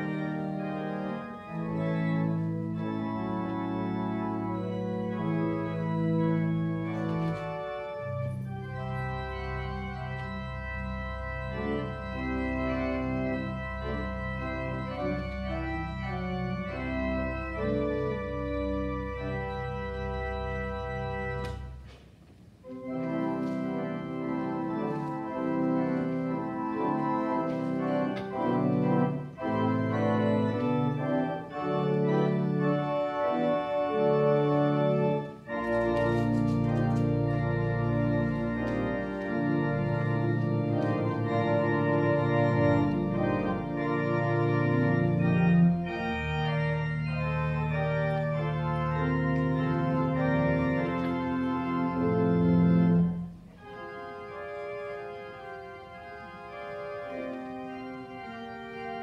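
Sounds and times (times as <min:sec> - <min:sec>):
organ playing sustained chords: 0:00.0 - 0:59.0.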